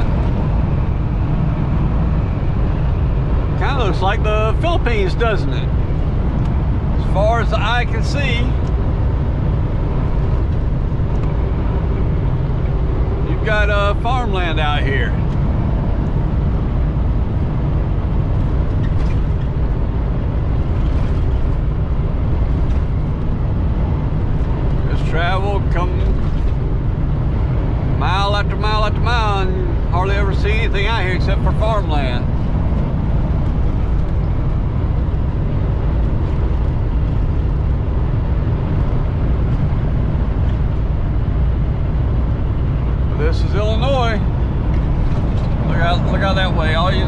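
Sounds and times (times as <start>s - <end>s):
diesel engine drone: 0.0s - 47.0s
road noise: 0.0s - 47.0s.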